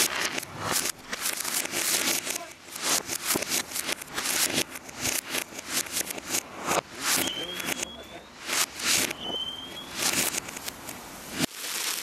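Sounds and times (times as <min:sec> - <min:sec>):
reversed firework crackling and hissing: 0:00.0 - 0:12.0.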